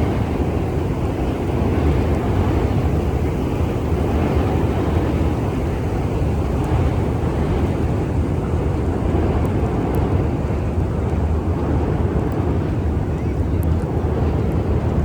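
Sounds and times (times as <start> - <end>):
low city rumble: 0.0 - 15.0.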